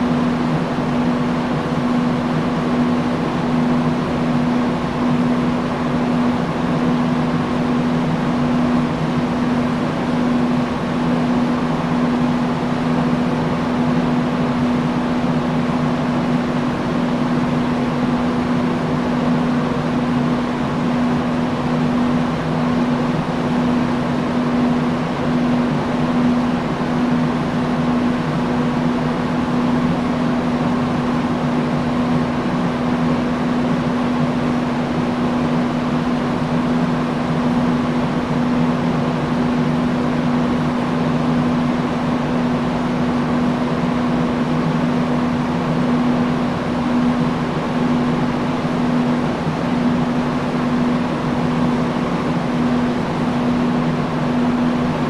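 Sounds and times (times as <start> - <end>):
industrial fan running: 0.0 - 55.0.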